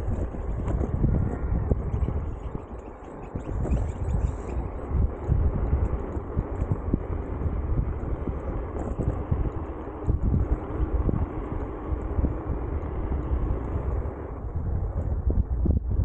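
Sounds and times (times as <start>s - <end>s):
scooter tyre rumble: 0.0s - 16.0s
wind buffeting microphone: 0.0s - 16.0s.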